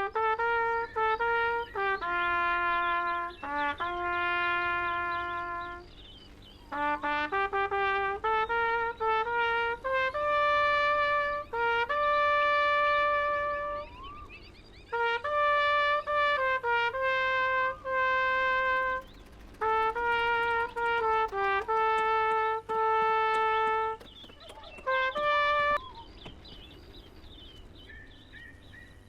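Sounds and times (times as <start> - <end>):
solo trumpet melody: 0.0 - 26.1.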